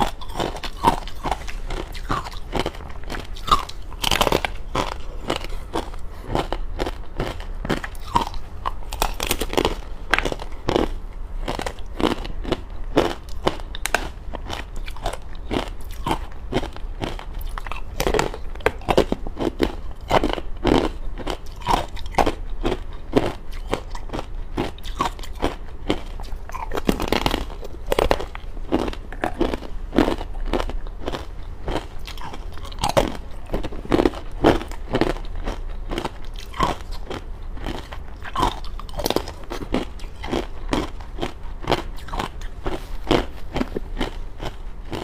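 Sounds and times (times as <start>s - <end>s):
crunching frozen ice: 0.0s - 45.0s.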